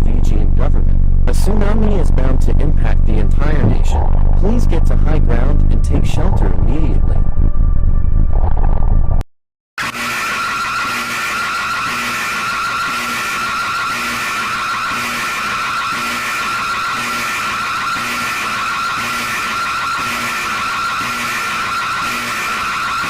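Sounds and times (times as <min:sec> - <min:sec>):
warbling alarm tone: 0:00.7 - 0:09.2, 0:09.8 - 0:23.0.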